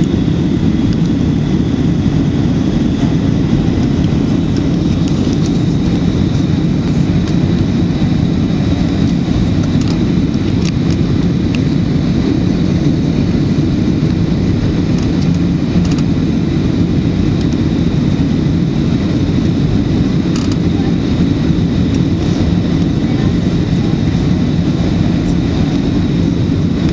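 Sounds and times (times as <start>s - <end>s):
aircraft cabin low rumble: 0.0s - 26.9s.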